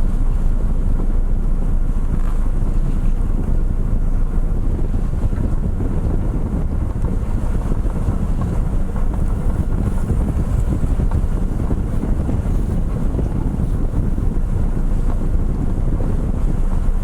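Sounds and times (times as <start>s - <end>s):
ferry low rumble: 0.0s - 17.0s
wind buffeting microphone: 0.0s - 17.0s.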